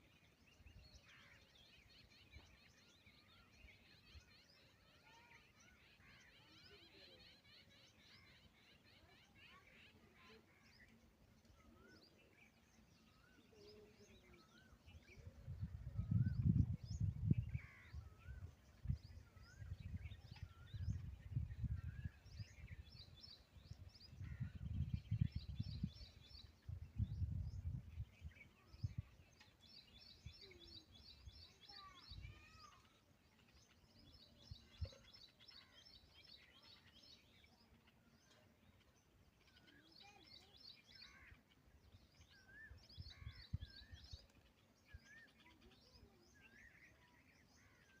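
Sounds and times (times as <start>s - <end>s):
small birds chirping and trilling: 0.0s - 48.0s.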